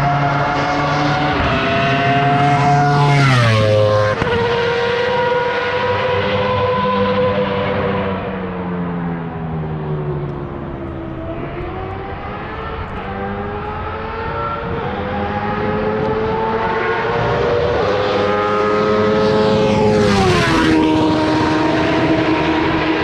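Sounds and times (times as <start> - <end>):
race car engine passing: 0.0 - 23.0.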